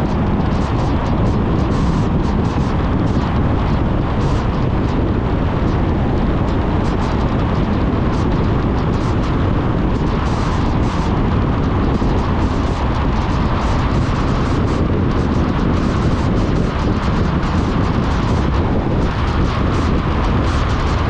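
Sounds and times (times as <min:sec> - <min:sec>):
car engine and tyres rumbling: 0:00.0 - 0:21.0
wind noise: 0:00.0 - 0:21.0.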